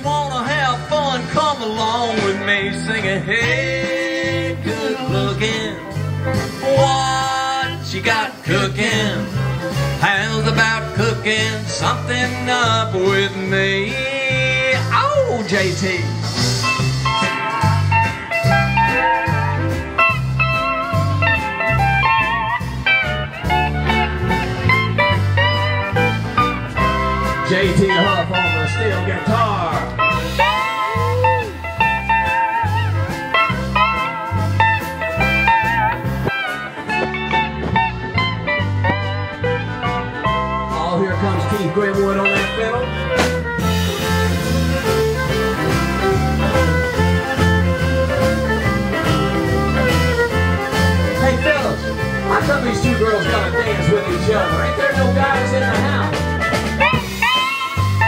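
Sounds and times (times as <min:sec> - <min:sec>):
country band music: 0:00.0 - 0:58.0
pedal steel guitar solo: 0:00.0 - 0:58.0.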